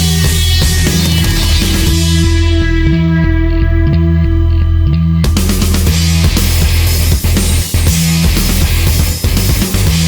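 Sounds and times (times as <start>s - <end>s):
bass line: 0.0s - 10.0s
drums: 0.0s - 10.0s
electric guitars: 0.0s - 10.0s
heavy rock music: 0.0s - 10.0s.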